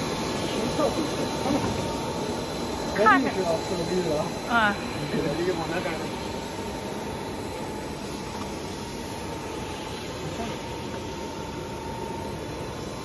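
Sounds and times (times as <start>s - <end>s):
machinery hum: 0.0s - 13.0s
thin constant whine: 0.0s - 13.0s.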